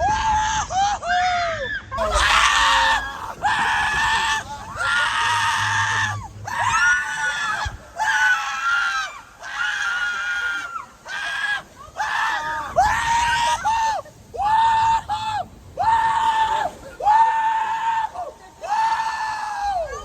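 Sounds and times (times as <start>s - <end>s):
people screaming: 0.0s - 20.0s.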